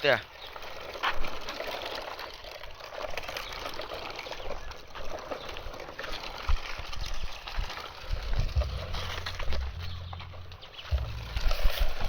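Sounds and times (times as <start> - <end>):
water trickling and pouring: 0.3 - 12.0.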